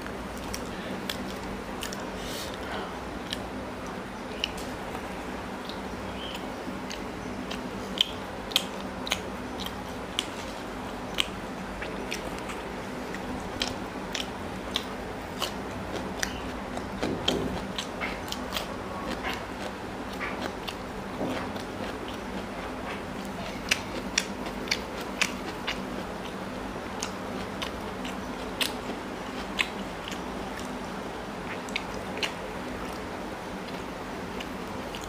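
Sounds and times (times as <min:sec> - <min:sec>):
low steady hum: 0:00.0 - 0:35.0
person chewing food: 0:00.0 - 0:35.0.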